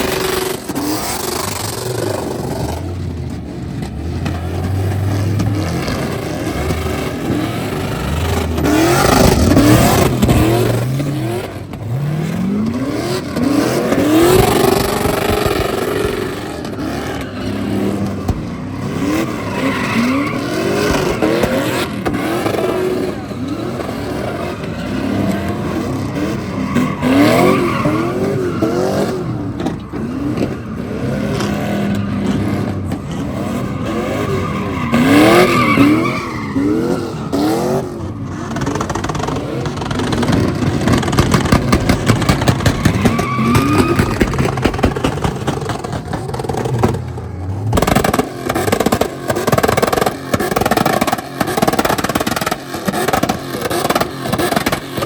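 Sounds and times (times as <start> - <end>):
engine revving: 0.0 - 55.0
tires spinning and squealing: 0.0 - 55.0.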